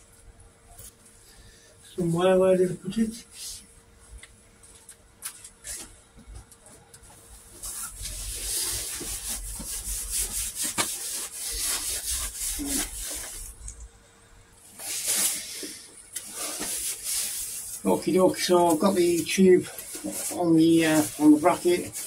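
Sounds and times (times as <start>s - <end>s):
rubbing and rustling handling noise: 3.2s - 14.0s, 14.6s - 22.0s.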